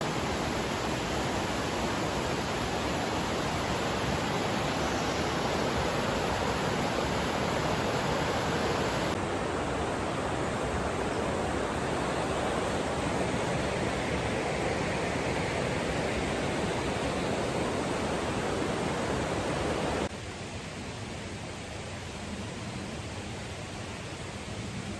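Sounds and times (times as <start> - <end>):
flowing water rushing: 0.0 - 20.1.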